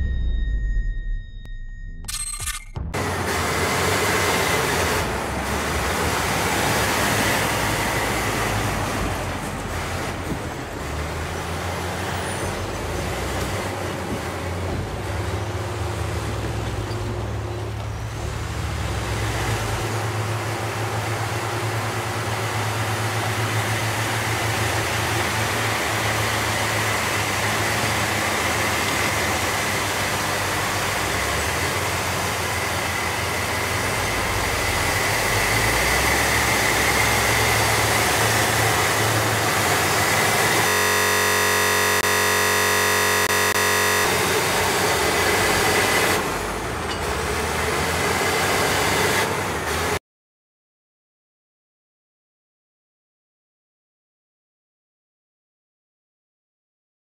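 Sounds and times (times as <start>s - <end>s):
bulldozer diesel engine drone: 0.0s - 50.0s.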